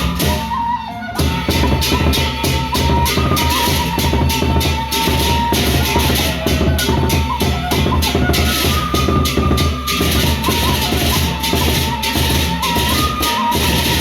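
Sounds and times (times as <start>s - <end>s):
barrel drums beating: 0.0s - 14.0s.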